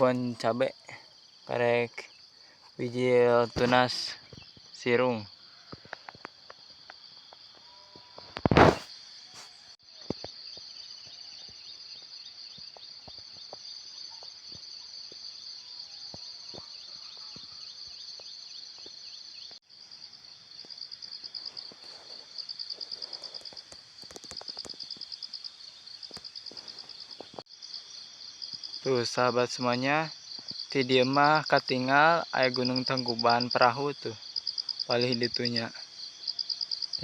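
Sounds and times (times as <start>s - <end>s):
insects chirring: 0.0s - 37.0s.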